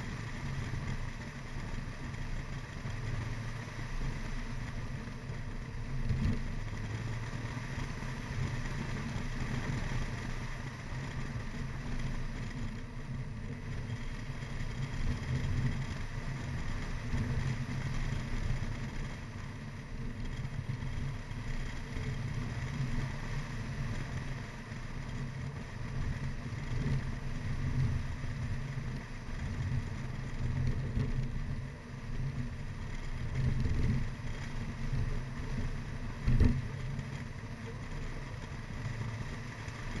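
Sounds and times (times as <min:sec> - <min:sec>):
car engine rumble: 0:00.0 - 0:40.0
road noise: 0:00.0 - 0:40.0.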